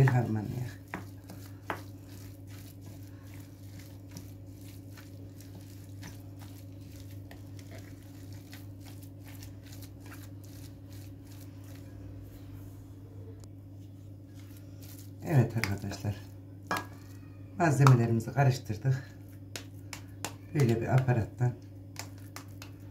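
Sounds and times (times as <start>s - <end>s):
spoon squishing mashed potato: 0.0s - 12.6s, 14.3s - 22.9s
steady low hum: 0.0s - 22.9s.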